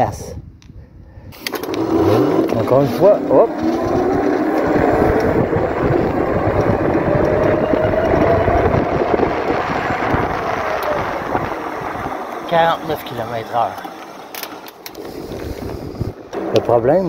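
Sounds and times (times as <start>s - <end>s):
wind rushing on microphone: 0.0s - 13.8s, 14.9s - 17.0s
electric bike motor whining: 1.4s - 17.0s.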